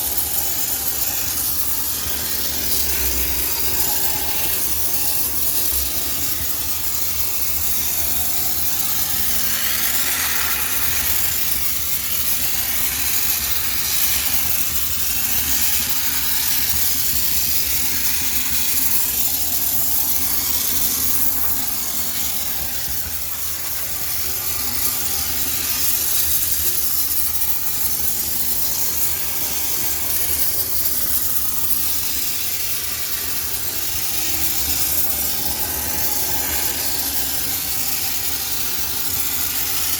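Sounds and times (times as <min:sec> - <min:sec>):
steam cleaner hissing: 0:00.0 - 0:39.9.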